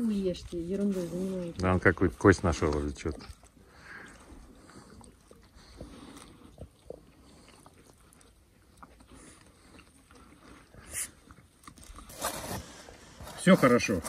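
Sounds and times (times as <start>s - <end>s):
pigs chewing and crunching: 0.0s - 14.0s.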